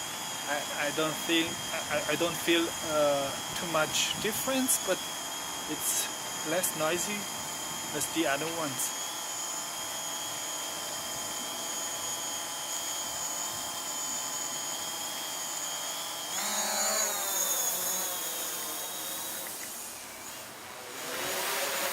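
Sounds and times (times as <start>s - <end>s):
drone motors whining: 0.0s - 21.9s.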